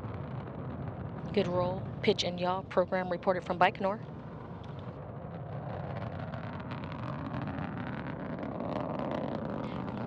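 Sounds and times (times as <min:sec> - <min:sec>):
rocket engines rumbling: 0:00.0 - 0:10.0.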